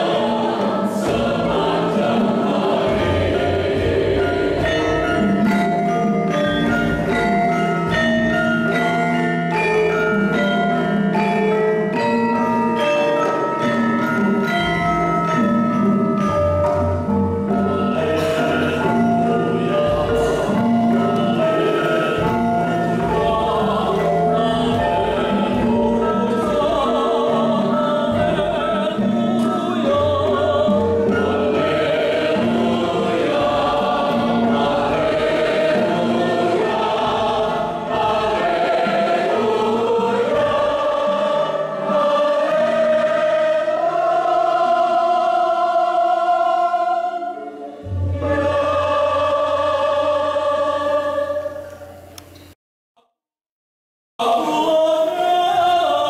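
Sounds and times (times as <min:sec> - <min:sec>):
choir singing a hymn: 0:00.0 - 0:11.4, 0:14.8 - 0:52.2, 0:54.2 - 0:56.0.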